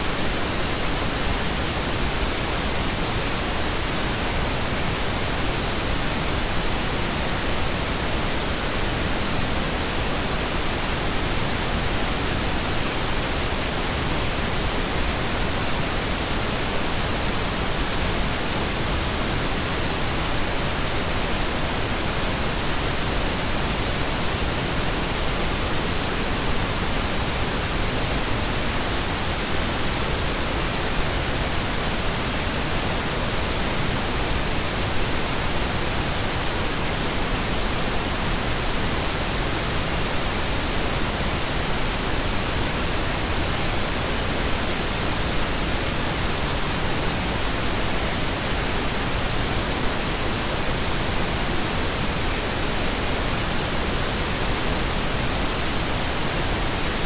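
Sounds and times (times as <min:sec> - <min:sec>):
pink noise hiss: 0:00.0 - 0:57.0.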